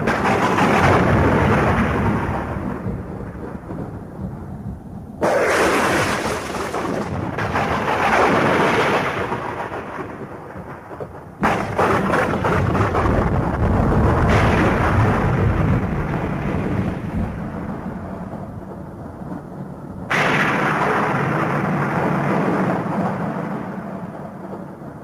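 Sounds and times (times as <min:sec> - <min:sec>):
heavy rain: 0:00.0 - 0:25.0
thunder claps rumbling: 0:00.0 - 0:25.0.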